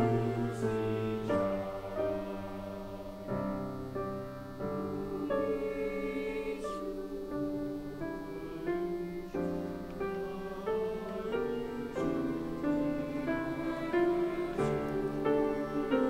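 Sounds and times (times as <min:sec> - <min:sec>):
choir singing: 0:00.0 - 0:16.0
grand piano chords: 0:00.0 - 0:16.0.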